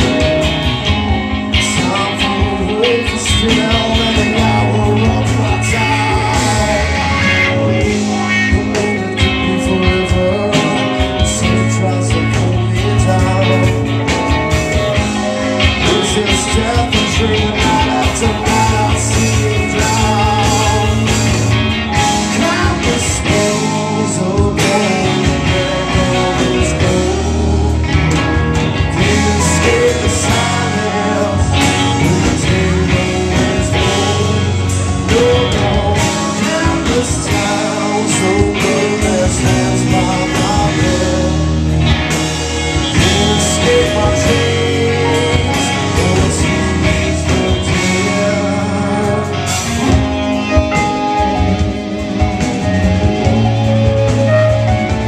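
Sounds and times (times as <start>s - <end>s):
drums: 0.0s - 55.0s
electric guitar: 0.0s - 55.0s
person singing into a microphone: 1.4s - 55.0s.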